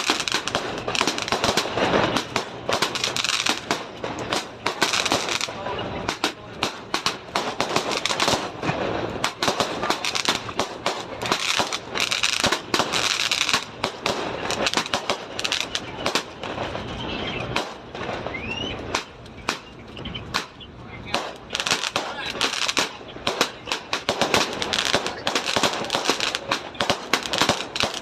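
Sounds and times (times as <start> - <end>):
firecrackers popping and banging: 0.0 - 28.0.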